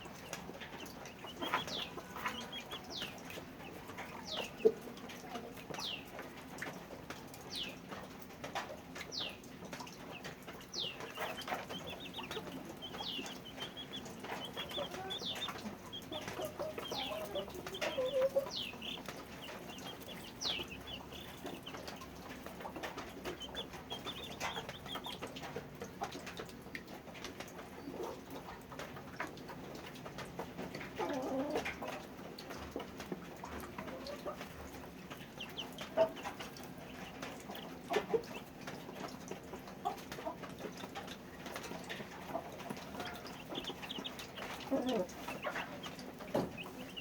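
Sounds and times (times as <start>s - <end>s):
chickens clucking: 0.0s - 47.0s
chickens peeping: 0.0s - 47.0s.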